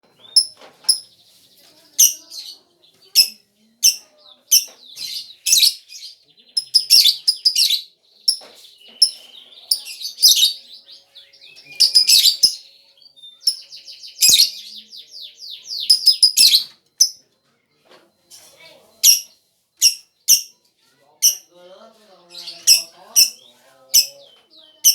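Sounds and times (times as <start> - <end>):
lovebird chirping: 0.0 - 17.3, 18.1 - 20.6, 21.2 - 24.9.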